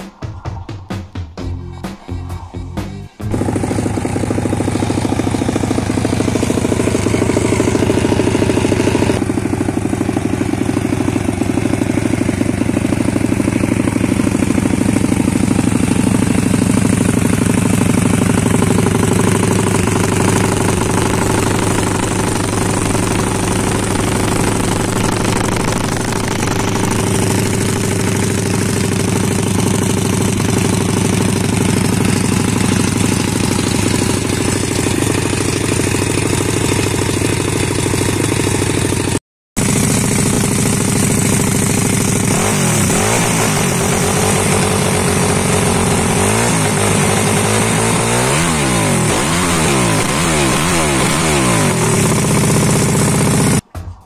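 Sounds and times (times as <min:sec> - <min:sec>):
motorbike engine idling: 0:02.4 - 0:53.6.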